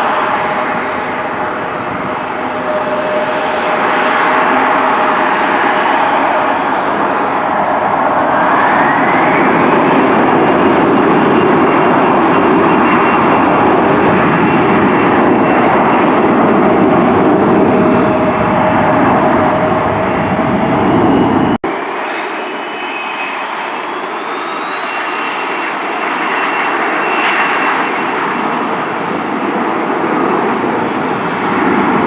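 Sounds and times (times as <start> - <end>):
jet engines whining: 0.0 - 32.0.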